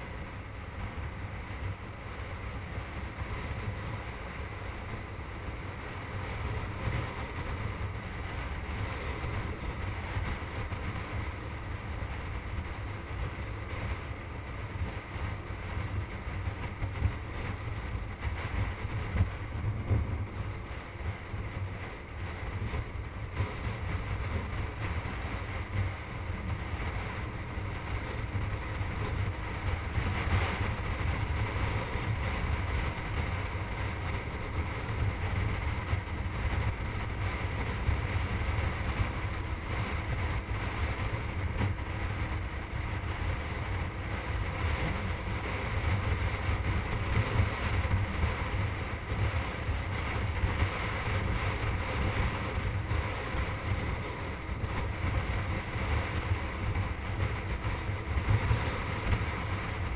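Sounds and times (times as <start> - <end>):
motorcycle engine drone: 0.0 - 59.9
wind rumbling on microphone: 0.0 - 59.9.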